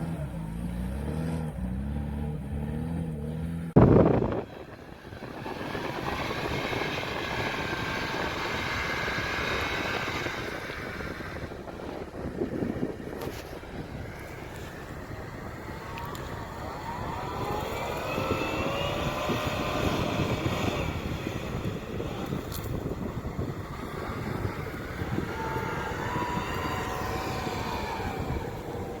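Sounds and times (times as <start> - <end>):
drivetrain whine: 0.0 - 29.0
off-road vehicle engine running: 0.0 - 29.0.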